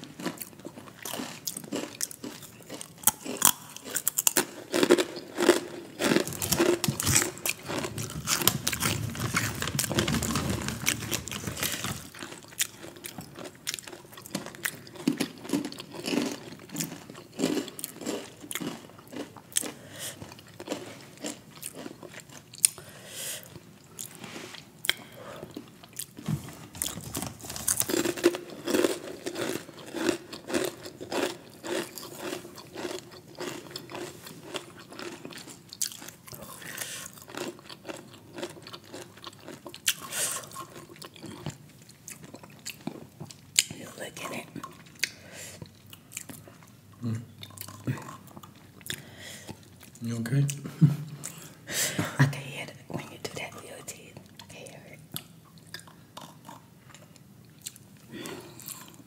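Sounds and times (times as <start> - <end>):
chewing crunchy snacks: 0.0 - 51.6, 52.2 - 59.0.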